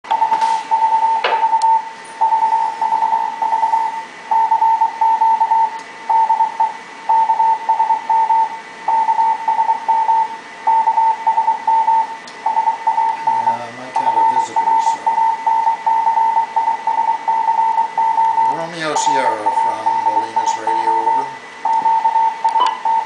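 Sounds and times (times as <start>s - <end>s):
morse code tone: 0.1s - 23.0s.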